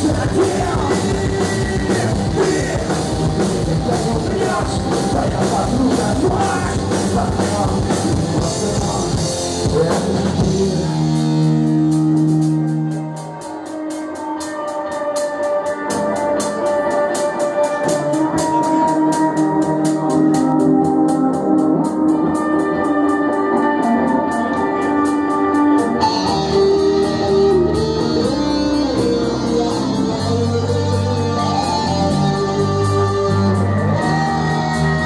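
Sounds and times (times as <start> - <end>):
electric guitar note bending: 0.0 - 35.0
rock band playing: 0.0 - 35.0.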